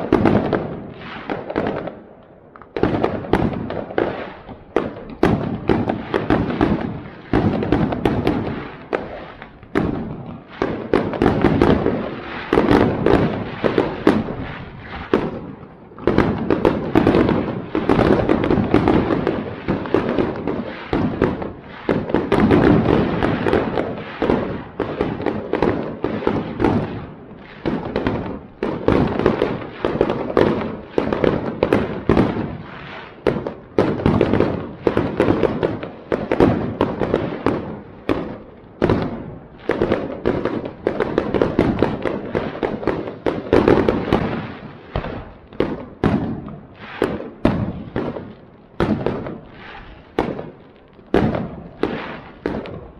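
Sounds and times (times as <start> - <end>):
fireworks bangs and crackle: 0.0 - 52.9.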